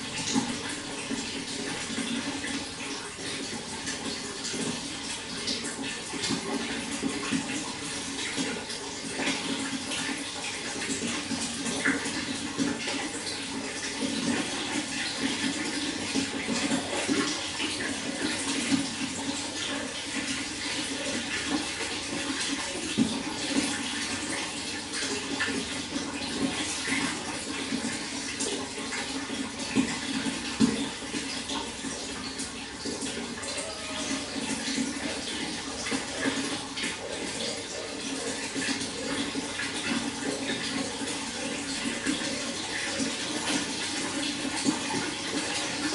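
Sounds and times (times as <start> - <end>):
running water splashing: 0.0 - 45.9.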